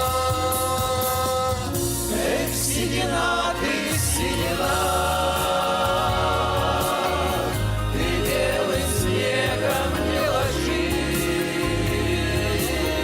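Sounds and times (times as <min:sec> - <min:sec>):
instrumental backing with bass beat: 0:00.0 - 0:13.0
vocal ensemble singing: 0:00.0 - 0:13.0.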